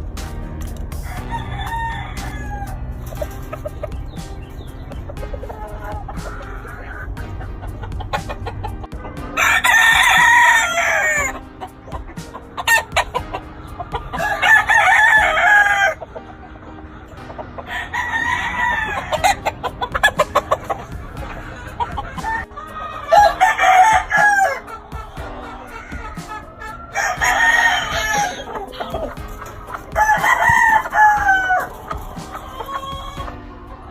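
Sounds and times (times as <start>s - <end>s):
rooster clucks: 1.0s - 33.9s
roosters crowing: 1.0s - 33.9s.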